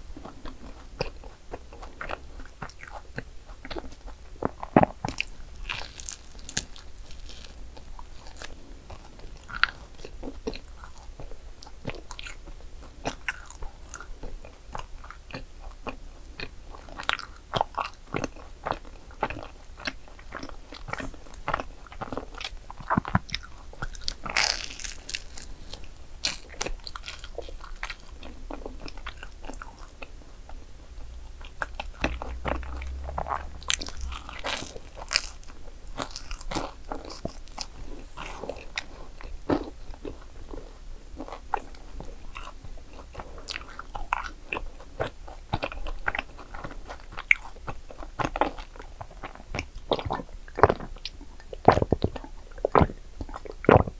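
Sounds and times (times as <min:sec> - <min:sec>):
person chewing crisp pastry: 0:00.0 - 0:53.9.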